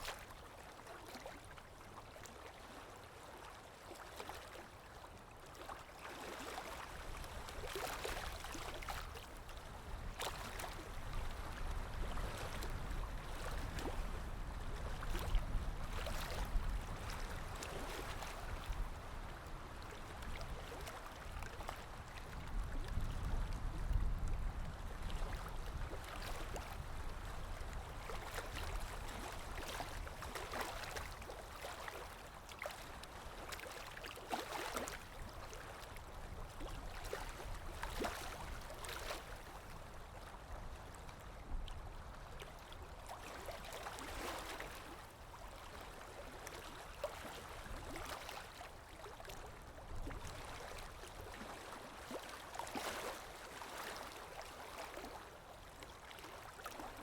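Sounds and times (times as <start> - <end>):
water lapping and splashing: 0.0 - 57.0.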